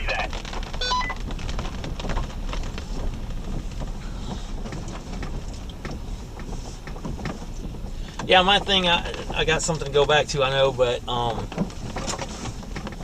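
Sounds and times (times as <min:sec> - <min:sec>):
vehicle low rumble: 0:00.0 - 0:13.0.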